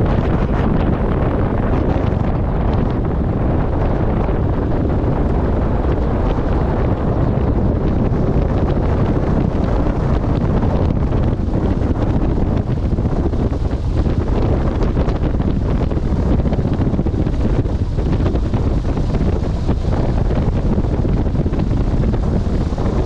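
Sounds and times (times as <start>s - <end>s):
airplane engine running: 0.0s - 23.0s
wind rush on microphone: 0.0s - 23.0s.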